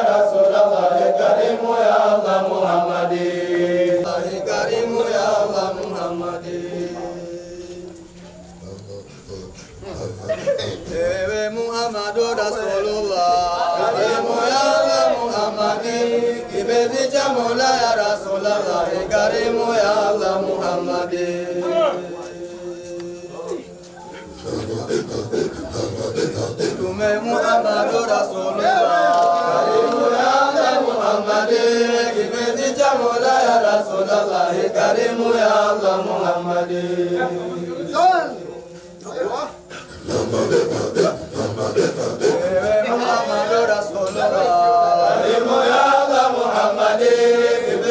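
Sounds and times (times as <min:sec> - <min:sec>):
male voices chanting: 0:00.0 - 0:47.9.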